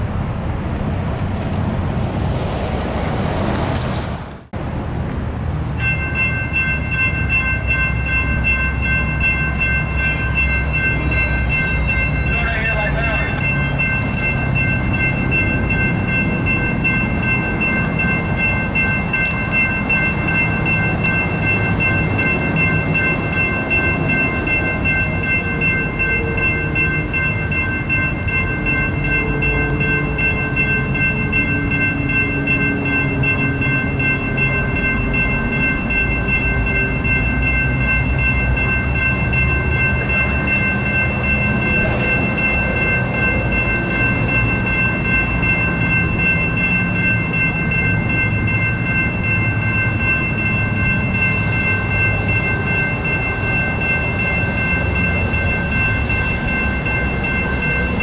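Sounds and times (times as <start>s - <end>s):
railroad crossing bells ringing: 5.6s - 58.0s.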